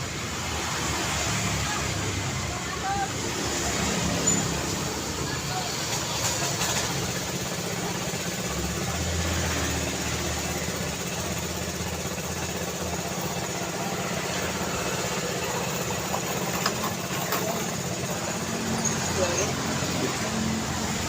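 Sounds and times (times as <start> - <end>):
busy street traffic: 0.0 - 21.0
engine idling close by: 0.0 - 21.0.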